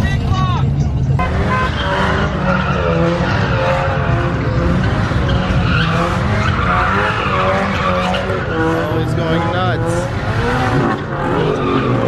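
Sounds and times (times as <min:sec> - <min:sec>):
car engine running hard: 0:00.0 - 0:12.0
car tyres squealing: 0:00.0 - 0:12.0.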